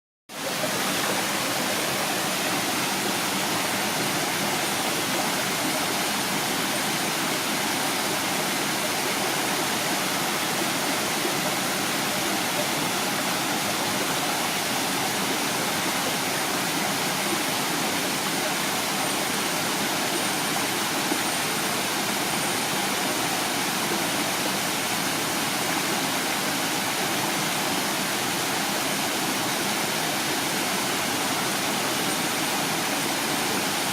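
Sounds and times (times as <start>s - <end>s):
water rushing over rocks: 0.3s - 33.9s.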